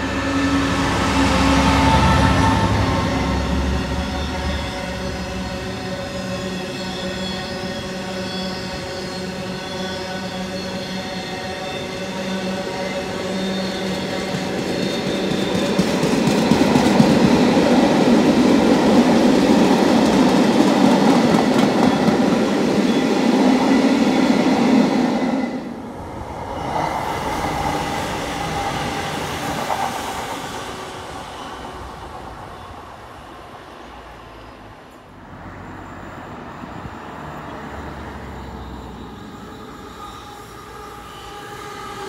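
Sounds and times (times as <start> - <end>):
humming train approaching: 0.0 - 42.0.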